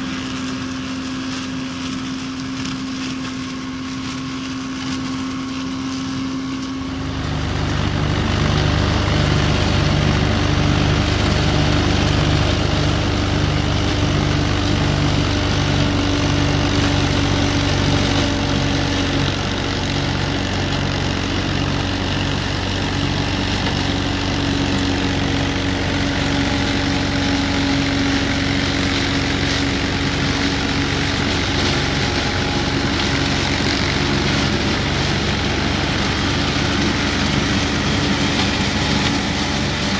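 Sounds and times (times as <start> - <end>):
tractor engine and mower drone: 0.0 - 39.9.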